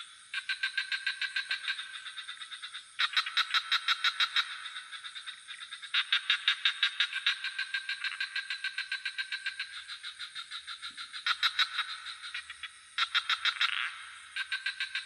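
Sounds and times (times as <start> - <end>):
frogs calling in pulsed trains: 0.0 - 15.0
high-pitched insect trill: 0.0 - 15.0.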